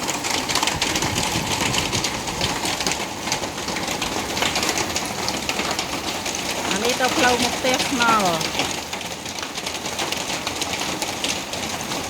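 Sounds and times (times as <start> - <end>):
hail clattering: 0.0 - 12.0.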